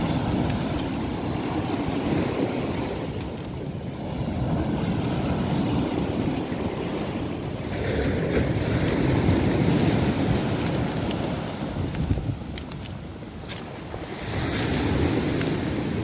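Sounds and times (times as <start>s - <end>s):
surf washing onto shore: 0.0s - 16.0s
wind blowing across microphone: 0.0s - 16.0s.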